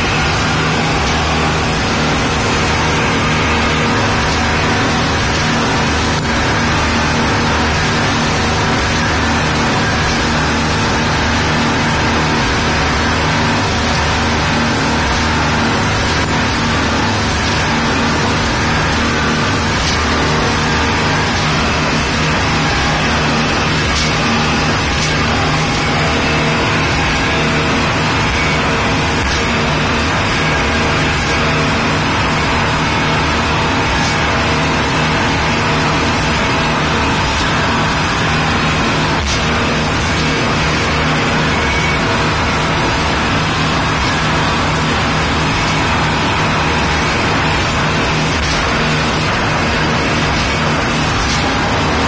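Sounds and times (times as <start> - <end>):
speedboat engine drone: 0.0 - 52.0
water rushing along hull: 0.0 - 52.0.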